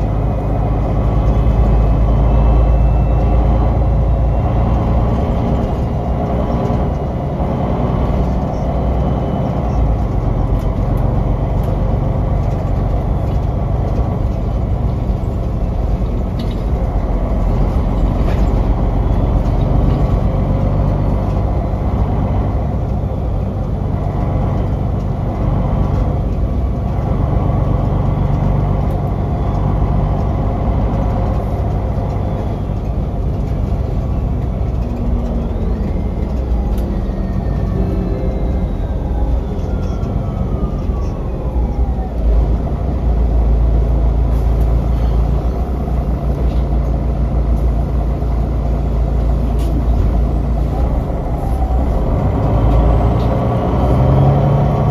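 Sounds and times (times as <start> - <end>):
bus diesel engine droning: 0.0 - 54.9
road rumble: 0.0 - 54.9
interior rattles and clicks: 4.4 - 53.8.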